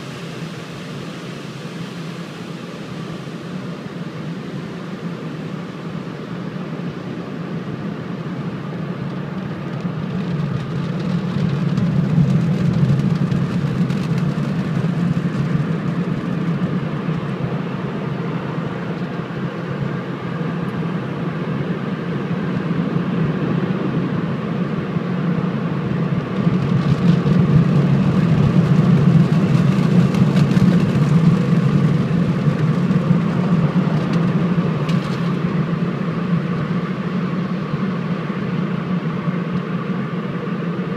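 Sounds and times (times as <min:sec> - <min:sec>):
low mechanical drone: 0:00.0 - 0:40.9.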